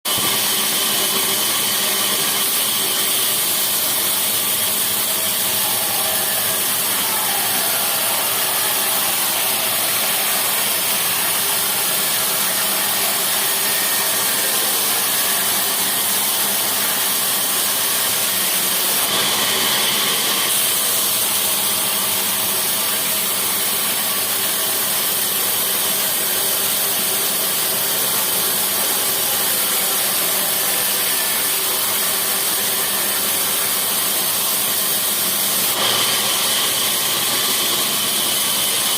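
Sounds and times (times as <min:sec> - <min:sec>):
sawmill machinery hissing: 0:00.1 - 0:38.9.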